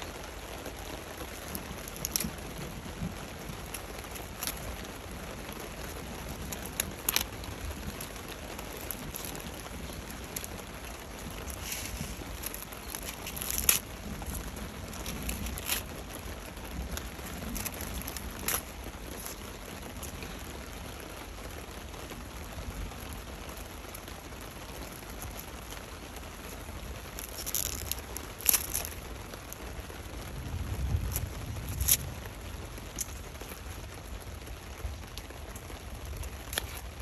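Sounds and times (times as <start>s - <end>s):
dry leaves crackling: 0.0s - 37.0s
steady rain falling: 0.0s - 37.0s.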